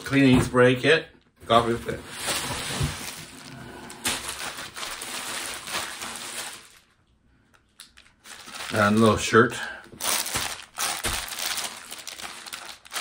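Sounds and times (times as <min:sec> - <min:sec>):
packaging rustling and crinkling: 0:01.5 - 0:07.1, 0:07.7 - 0:13.0.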